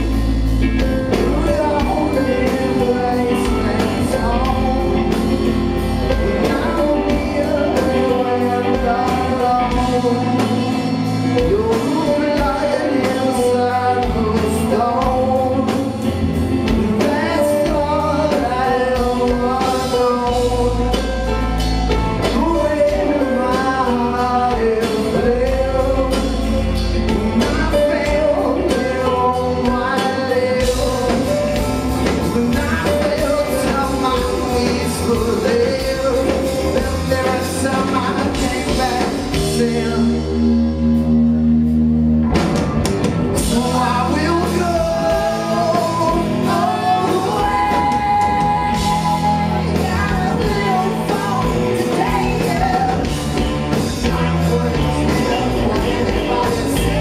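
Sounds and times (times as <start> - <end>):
person singing: 0.0 - 41.5, 43.3 - 57.0
live rock band playing: 0.0 - 57.0.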